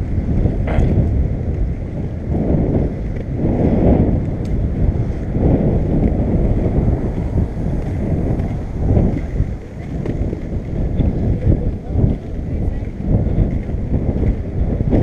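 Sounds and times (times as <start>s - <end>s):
skateboard wheels rolling on concrete: 0.0s - 15.0s
wind buffeting microphone: 0.0s - 15.0s.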